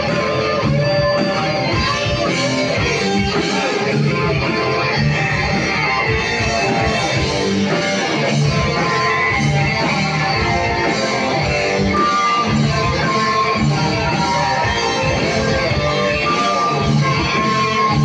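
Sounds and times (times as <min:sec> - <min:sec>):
metal band playing live: 0:00.0 - 0:18.0.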